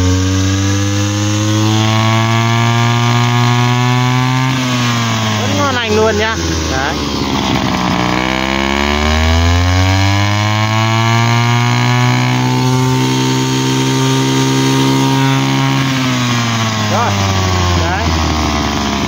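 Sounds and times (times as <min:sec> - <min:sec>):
brush cutter engine revving: 0:00.0 - 0:19.0.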